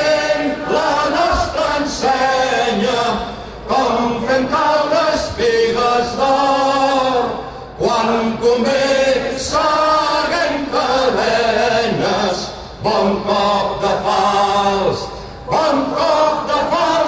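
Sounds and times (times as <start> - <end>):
voices singing in unison: 0.0 - 17.0.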